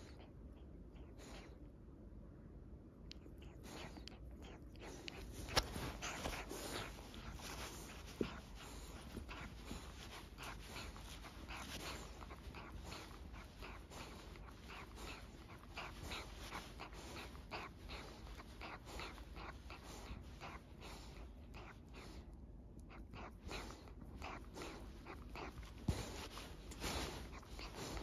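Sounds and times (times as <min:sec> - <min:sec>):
dog breathing quickly: 0:00.0 - 0:01.6, 0:03.1 - 0:28.0.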